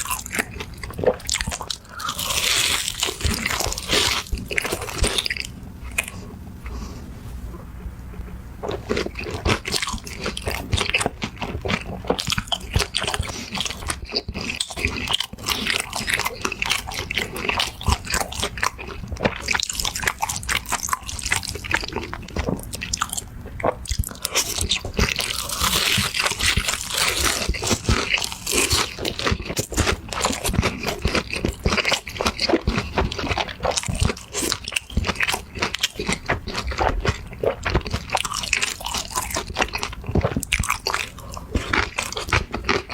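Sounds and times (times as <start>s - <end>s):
crunching and chewing crisp food: 0.0s - 7.0s, 8.2s - 42.9s.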